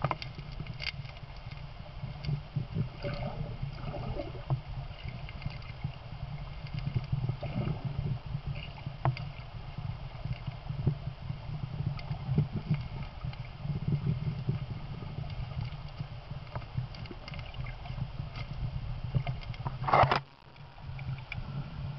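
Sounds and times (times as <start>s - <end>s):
small underwater clicks: 0.0s - 21.9s
underwater river rumble: 0.0s - 21.9s.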